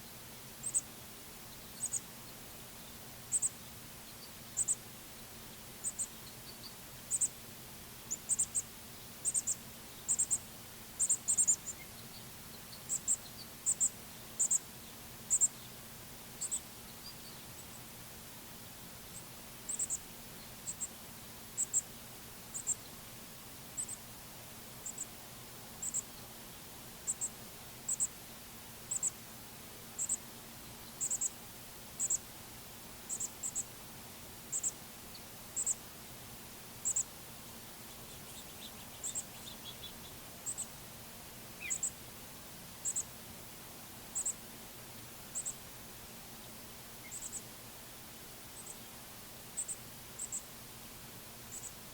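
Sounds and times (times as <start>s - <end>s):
faint outdoor background noise: 0.0s - 51.9s.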